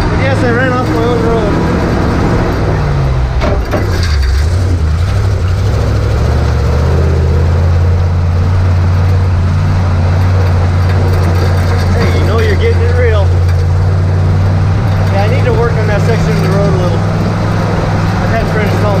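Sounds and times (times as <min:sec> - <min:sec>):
engine knocks: 0:00.0 - 0:19.0
truck engine running: 0:00.0 - 0:19.0.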